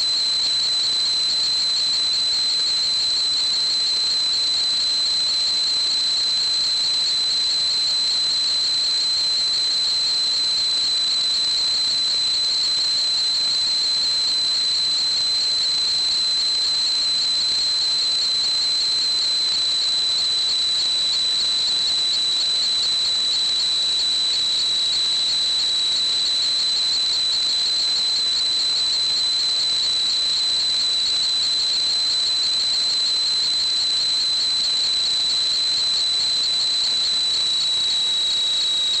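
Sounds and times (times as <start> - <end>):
high-pitched whistle: 0.0 - 39.0.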